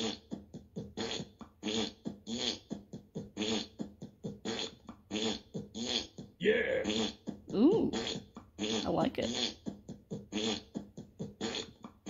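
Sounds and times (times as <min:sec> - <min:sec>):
fart sound effect blasts: 0:00.0 - 0:12.0.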